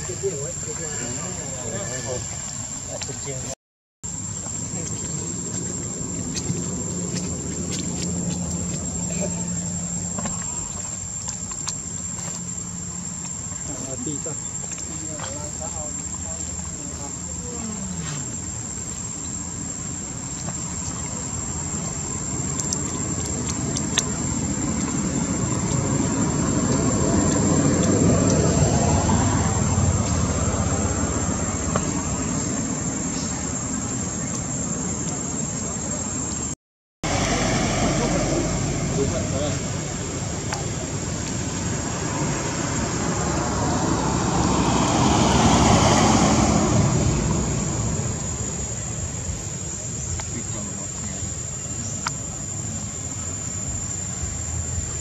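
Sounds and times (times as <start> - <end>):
vehicle passing rumble: 0.0 - 55.0.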